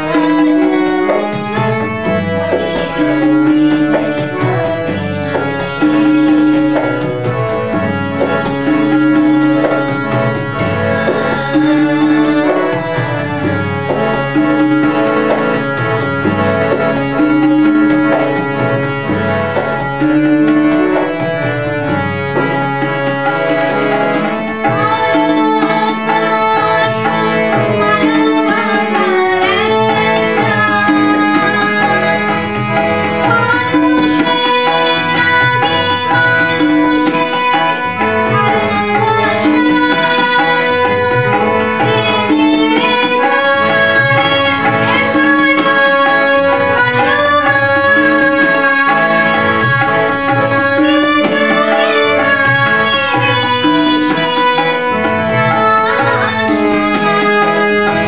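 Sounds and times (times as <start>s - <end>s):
woman singing: 0.0s - 7.4s, 8.3s - 15.6s, 23.6s - 58.0s
harmonium playing chords: 0.0s - 58.0s
tabla rhythm: 0.0s - 58.0s.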